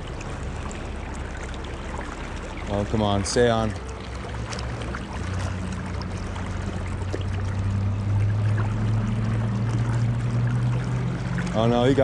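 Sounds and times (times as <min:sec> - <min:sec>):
low hum: 0:00.0 - 0:12.0
river water rushing: 0:00.0 - 0:12.0.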